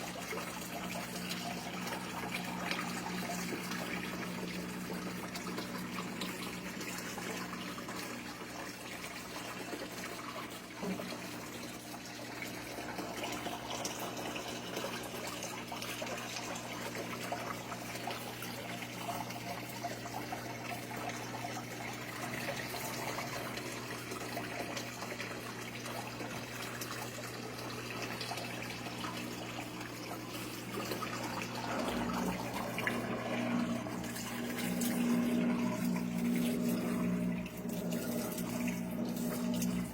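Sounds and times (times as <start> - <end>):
washing machine motor hum: 0.0 - 39.9
water splashing in washing machine: 0.0 - 39.9.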